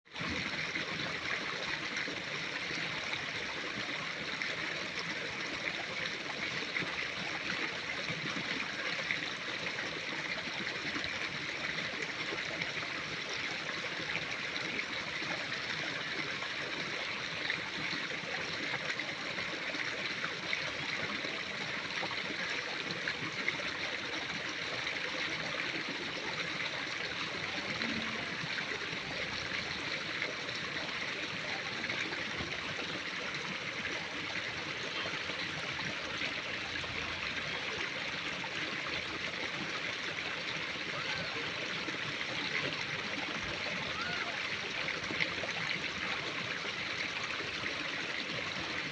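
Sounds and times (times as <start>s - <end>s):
flowing water trickling: 0.1s - 48.9s.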